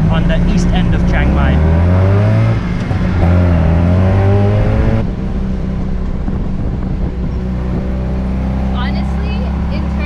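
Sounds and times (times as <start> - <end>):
tuk-tuk engine accelerating: 0.0 - 10.0.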